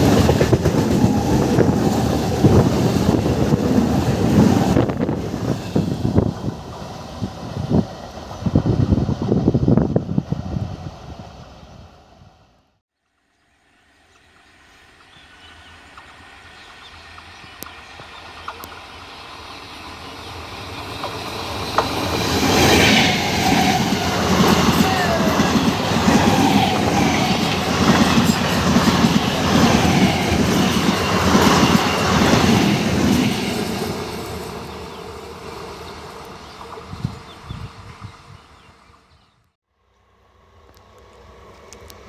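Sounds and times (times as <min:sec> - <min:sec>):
train passing at speed: 0:00.0 - 0:12.8, 0:13.6 - 0:42.0.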